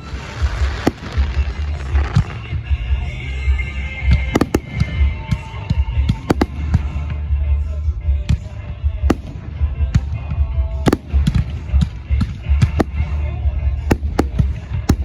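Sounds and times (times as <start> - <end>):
fireworks bangs and pops: 0.0 - 15.0
low rumble: 0.0 - 15.0
music over loudspeakers: 0.0 - 15.0.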